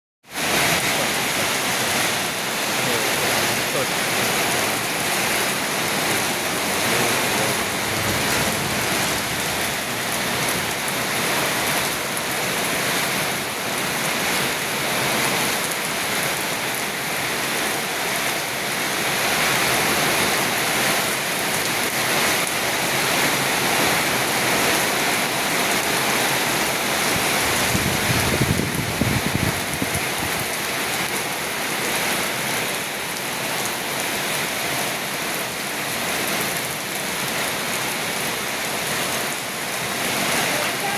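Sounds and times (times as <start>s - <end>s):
heavy rain: 0.2s - 40.9s.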